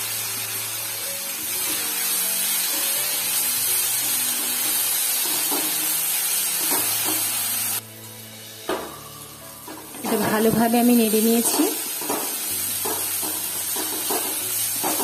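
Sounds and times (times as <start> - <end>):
potatoes sizzling in hot oil: 0.0 - 15.0.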